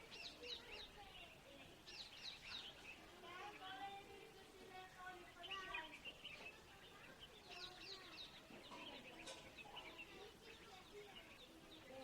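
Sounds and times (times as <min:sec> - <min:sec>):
distant children's voices: 0:00.0 - 0:12.0
small birds chirping: 0:00.0 - 0:12.0.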